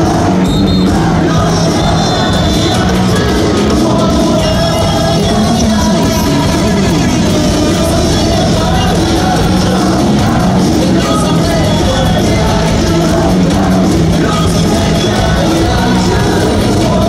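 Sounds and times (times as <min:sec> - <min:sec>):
cheer song over loudspeakers: 0:00.0 - 0:17.0
fans singing along: 0:00.0 - 0:17.0.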